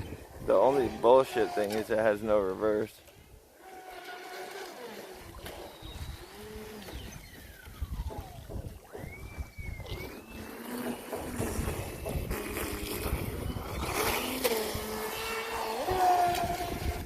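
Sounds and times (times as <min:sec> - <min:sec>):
rc boat motor whine: 0:00.5 - 0:02.0, 0:03.6 - 0:17.0.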